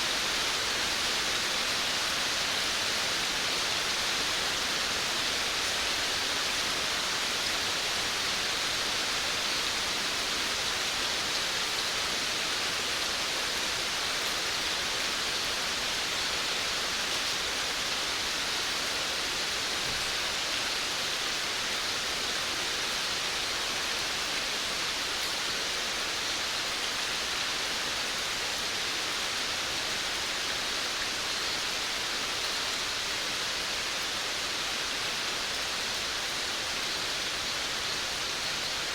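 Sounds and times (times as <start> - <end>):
steady rain on a veranda: 0.0 - 38.9.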